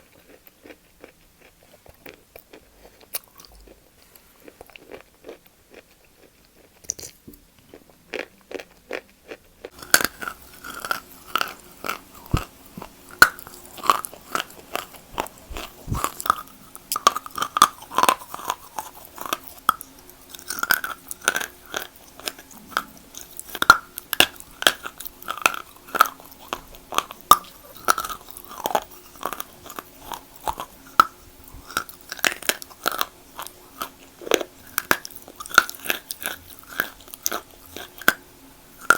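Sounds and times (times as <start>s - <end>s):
chewing crunchy chalk: 0.0s - 38.2s.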